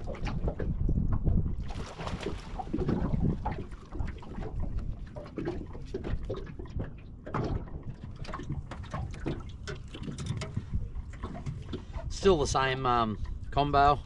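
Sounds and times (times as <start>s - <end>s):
water splashing and dripping: 0.0s - 13.4s
wind rumble on microphone: 0.0s - 14.0s.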